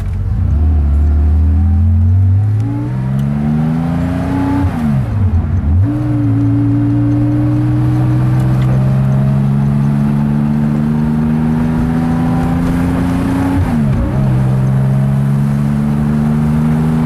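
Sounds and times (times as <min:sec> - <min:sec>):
car engine heard from inside cabin: 0:00.0 - 0:17.0.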